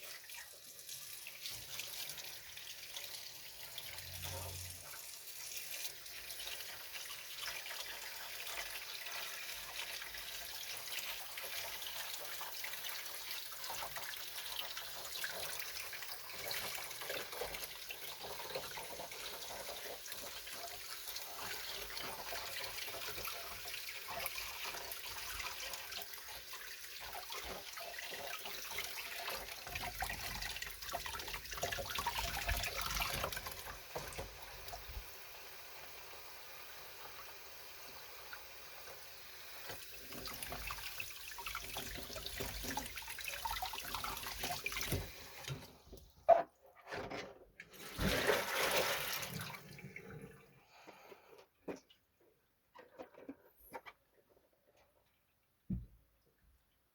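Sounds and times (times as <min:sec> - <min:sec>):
tap water running into basin: 0:00.0 - 0:46.2, 0:47.6 - 0:51.9.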